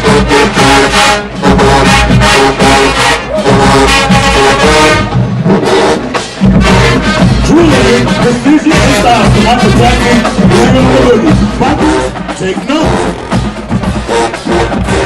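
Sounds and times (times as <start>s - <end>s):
drumline percussion: 0.0s - 15.0s
marching band playing: 0.0s - 15.0s.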